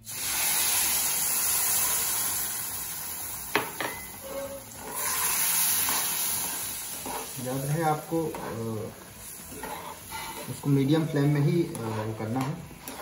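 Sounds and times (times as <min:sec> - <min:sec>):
milk sizzling in hot pan: 0:00.0 - 0:13.0.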